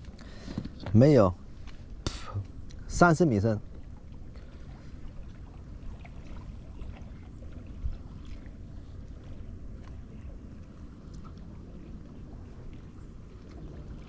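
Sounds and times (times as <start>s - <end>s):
water and wind rumbling around boat: 0.0s - 14.0s.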